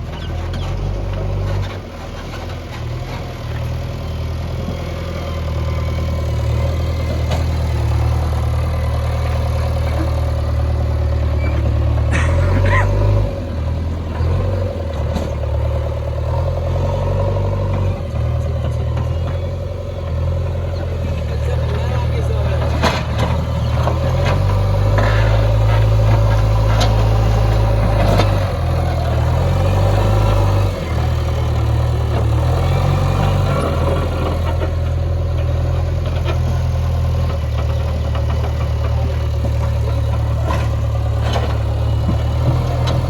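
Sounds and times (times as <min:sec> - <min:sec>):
diesel engine under load: 0:00.0 - 0:43.0.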